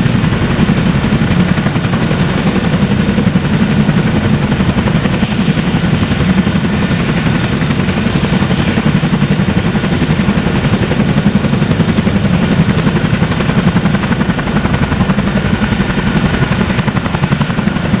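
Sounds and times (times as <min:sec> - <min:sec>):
helicopter rotor beat: 0:00.0 - 0:18.0.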